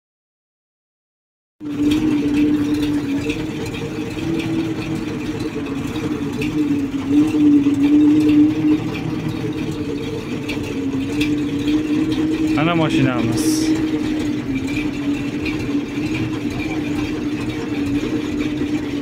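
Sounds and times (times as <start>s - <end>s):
truck engine idling: 1.6s - 19.0s.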